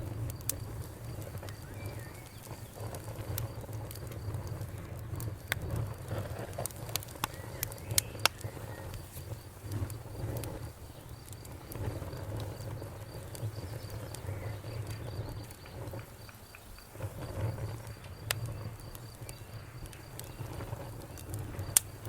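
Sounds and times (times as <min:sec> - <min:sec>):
low rumble of flames: 0:00.0 - 0:22.0
sharp pops and snaps: 0:00.0 - 0:22.0
wood fire crackling: 0:00.0 - 0:22.0.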